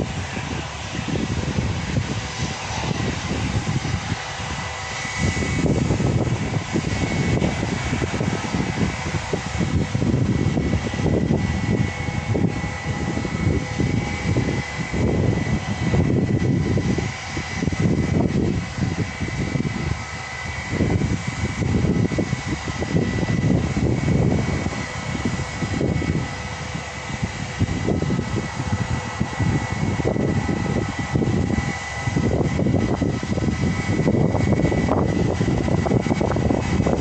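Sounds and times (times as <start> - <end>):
distant jet engine whine: 0.0 - 37.0
wind rumble on microphone: 0.0 - 37.0.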